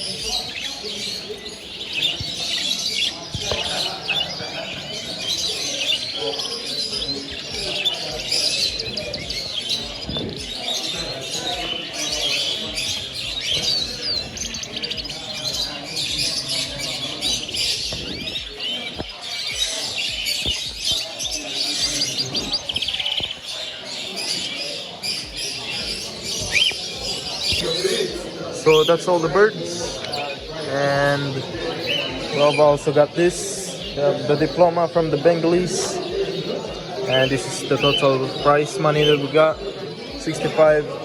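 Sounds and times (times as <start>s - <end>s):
finches chirping: 0.0s - 41.0s
low hubbub: 0.0s - 41.0s.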